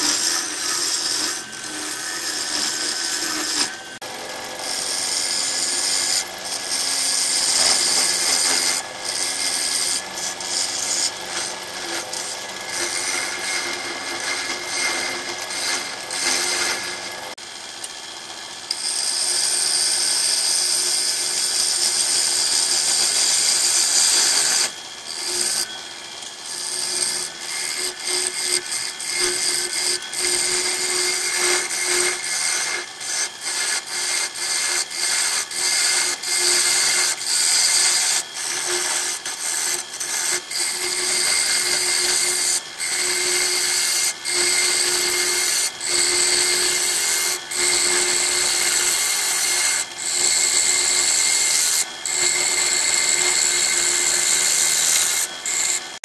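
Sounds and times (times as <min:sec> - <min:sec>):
lathe tool scraping wood: 0:00.0 - 0:17.4, 0:18.6 - 0:56.0
lathe motor humming: 0:00.0 - 0:21.5, 0:22.1 - 0:56.0.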